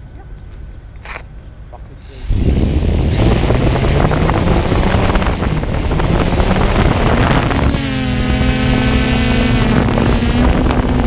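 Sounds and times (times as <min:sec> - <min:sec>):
prop wash buffeting microphone: 0:00.0 - 0:11.0
drone motor whine: 0:02.0 - 0:11.0.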